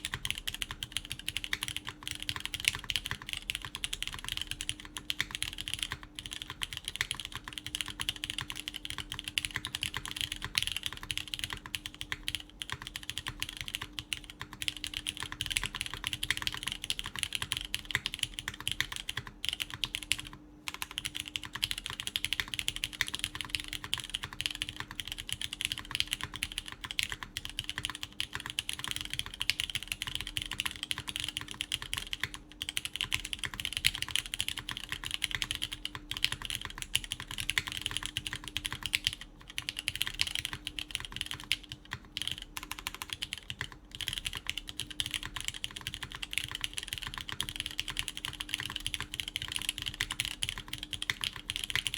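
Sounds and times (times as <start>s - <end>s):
mechanical keyboard typing: 0.0s - 51.9s.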